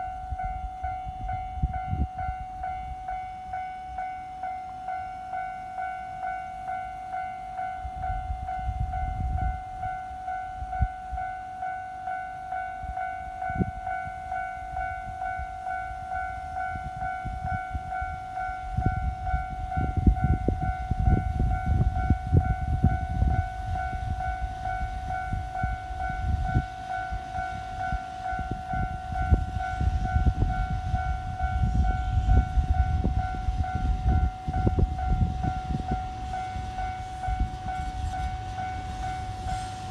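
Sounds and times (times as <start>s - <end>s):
level crossing alarm ringing: 0.0s - 39.9s
train rumble and wheel clatter: 0.0s - 39.9s.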